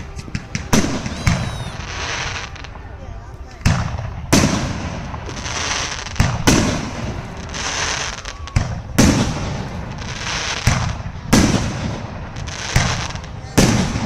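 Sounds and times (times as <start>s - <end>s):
fireworks banging: 0.0s - 14.0s
fireworks crackling: 0.0s - 14.0s.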